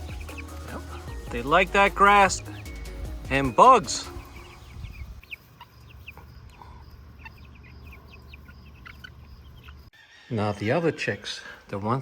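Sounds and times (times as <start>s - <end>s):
chicks peeping: 0.0s - 11.9s.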